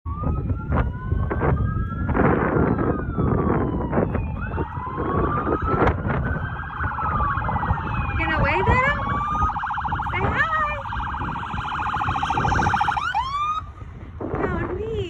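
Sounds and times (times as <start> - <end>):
police sirens wailing: 0.1 - 14.7
low vehicle rumble: 0.1 - 15.0.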